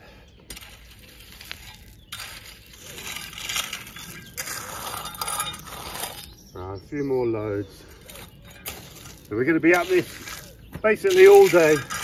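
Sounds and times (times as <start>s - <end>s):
rake scraping through gravel: 0.5s - 6.5s, 7.8s - 12.0s.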